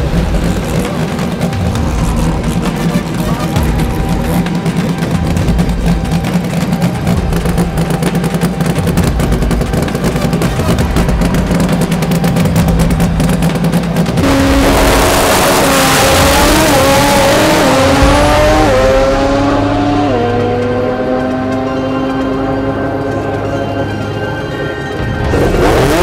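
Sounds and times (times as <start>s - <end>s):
racing car engine revving: 0.0s - 24.4s, 25.1s - 26.0s.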